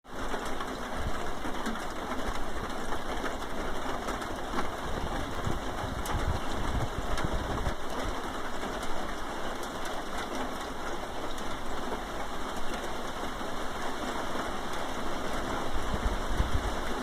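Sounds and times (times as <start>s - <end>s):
rain on a tin roof: 0.0s - 17.0s.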